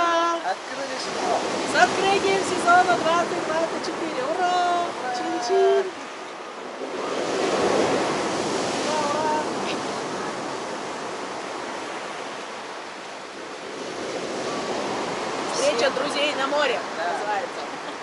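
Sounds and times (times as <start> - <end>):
waves breaking on shore: 0.0 - 18.0.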